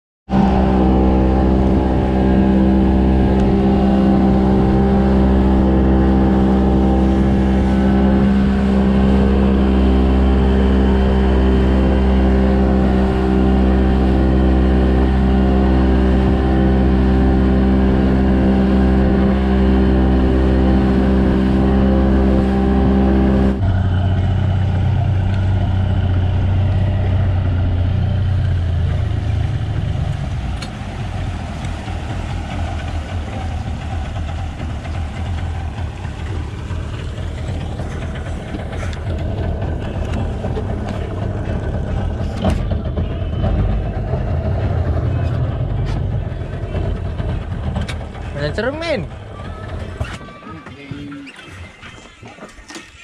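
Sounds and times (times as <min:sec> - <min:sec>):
outboard motor running: 0:00.3 - 0:53.0
water noise: 0:00.3 - 0:53.0
wind: 0:00.3 - 0:53.0.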